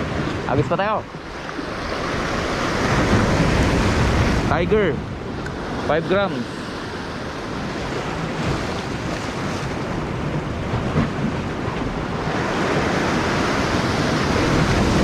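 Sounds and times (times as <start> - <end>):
rough sea surf breaking: 0.0 - 15.0
wind on microphone: 1.6 - 15.0.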